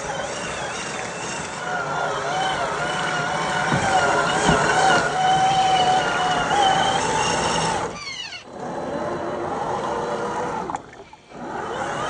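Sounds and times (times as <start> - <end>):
electric toy truck motor whining: 0.0 - 12.0.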